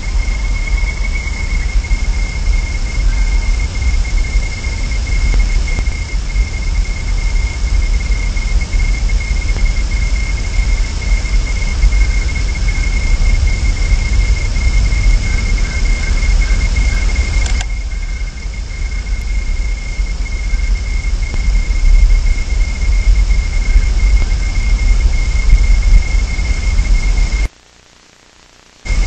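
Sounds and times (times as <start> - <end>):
wind rumbling on microphone: 0.0 - 27.5
high-pitched electrical whine: 0.0 - 29.0.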